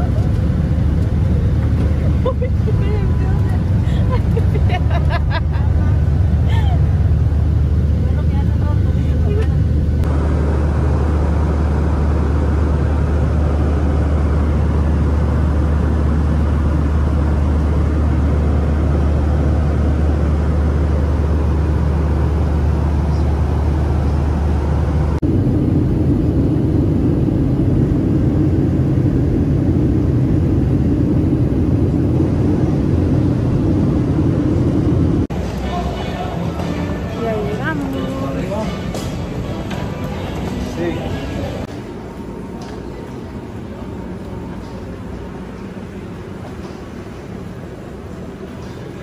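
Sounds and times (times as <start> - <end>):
airliner cabin roar: 0.0 - 49.0.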